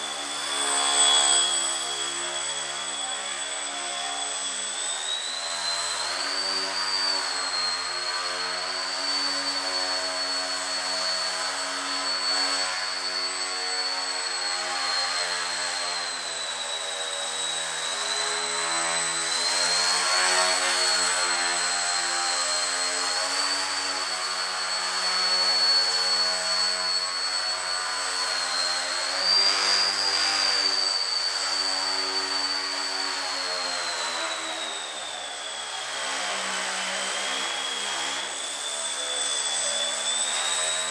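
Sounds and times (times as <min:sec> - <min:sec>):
electric motor and propeller whining: 0:00.0 - 0:40.9.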